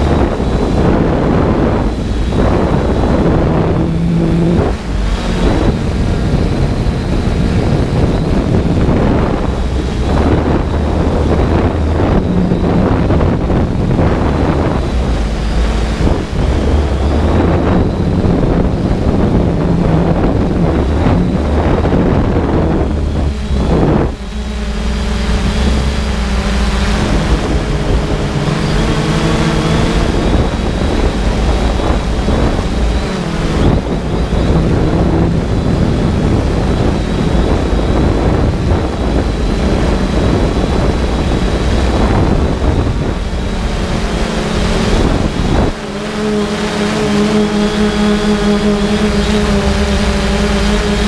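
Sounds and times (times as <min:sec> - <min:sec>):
drone propellers humming: 0:00.0 - 0:51.0
wind buffeting microphone: 0:00.0 - 0:51.0.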